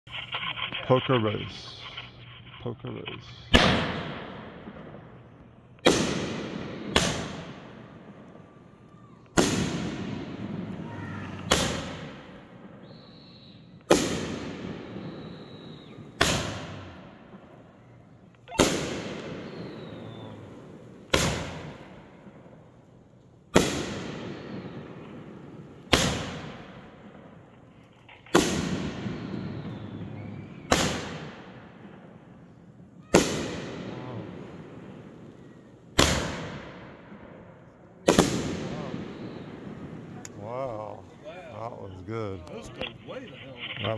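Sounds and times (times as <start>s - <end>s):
firework bangs: 3.2s - 43.9s.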